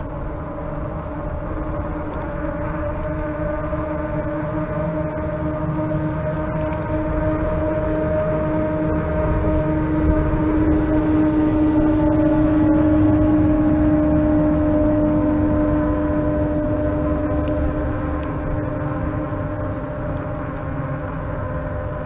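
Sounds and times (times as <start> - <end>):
electric bike motor whine: 0.0 - 22.0
wind rumble on microphone: 0.0 - 22.0.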